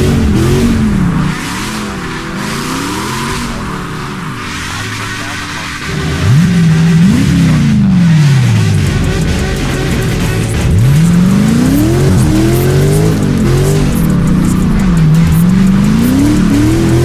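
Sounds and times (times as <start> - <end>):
car engine revving: 0.0 - 17.0
tyres squealing: 0.0 - 17.0.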